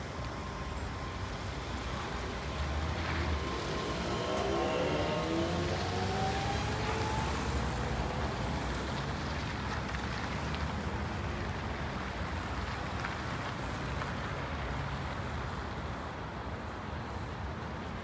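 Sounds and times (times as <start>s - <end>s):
tyre noise on road: 0.0s - 18.0s
vehicle engines rumbling: 0.0s - 18.0s.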